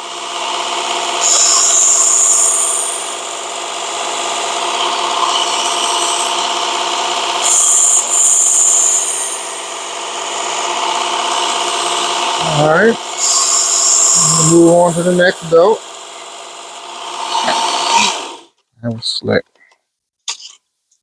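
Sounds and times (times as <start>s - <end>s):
belt sharpener motor running: 0.0s - 18.5s.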